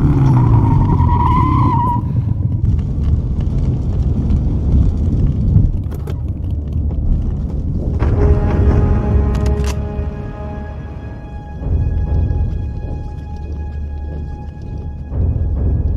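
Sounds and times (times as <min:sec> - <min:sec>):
heavy vehicle engine rumble: 0:00.0 - 0:15.9.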